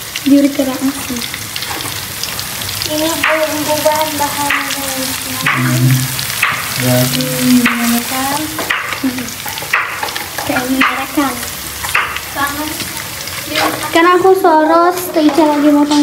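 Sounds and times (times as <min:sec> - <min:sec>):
vegetables sizzling in a wok: 0:00.0 - 0:16.0.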